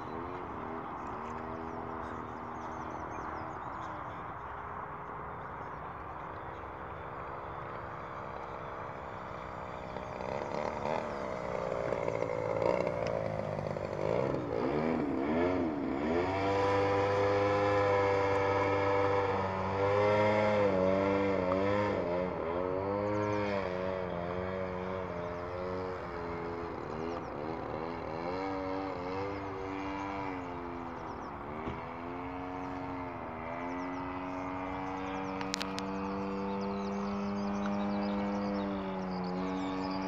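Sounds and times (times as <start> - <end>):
model airplane motor droning: 0.0 - 40.0.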